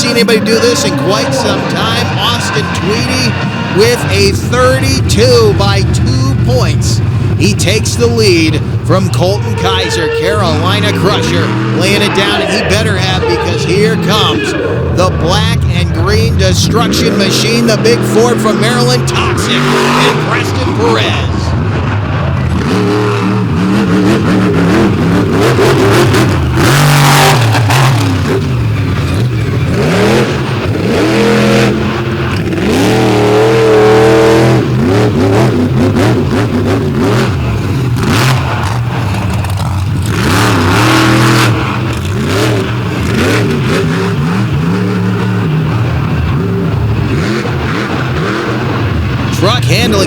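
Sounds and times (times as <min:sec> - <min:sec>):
loud rushing bursts: 0:00.0 - 0:50.0
truck engine revving: 0:00.0 - 0:50.0.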